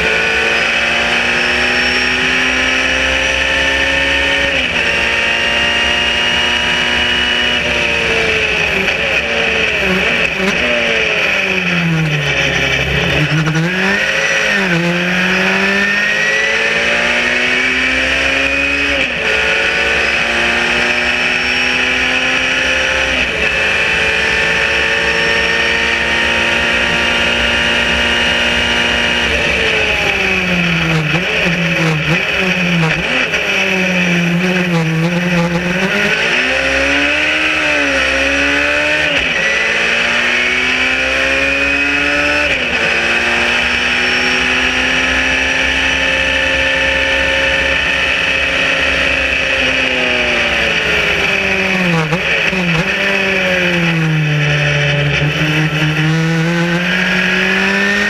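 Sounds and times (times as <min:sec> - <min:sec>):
racing car engine: 0:00.0 - 0:58.0.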